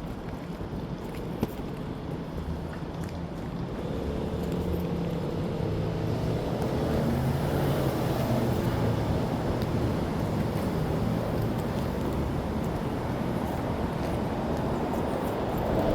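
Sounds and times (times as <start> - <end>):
street traffic rumble: 0.0 - 15.9.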